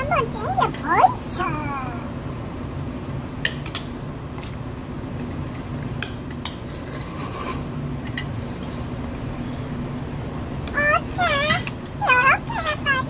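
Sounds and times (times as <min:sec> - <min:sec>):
steady low hum: 0:00.0 - 0:06.4, 0:07.5 - 0:13.0.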